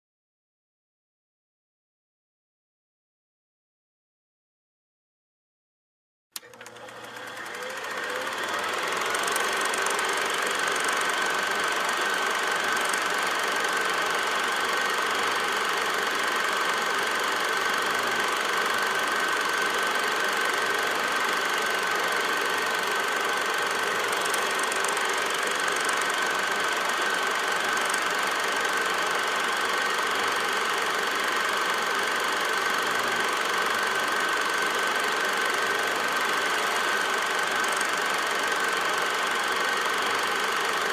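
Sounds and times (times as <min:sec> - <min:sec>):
film projector whirring and clattering: 0:06.4 - 0:40.9.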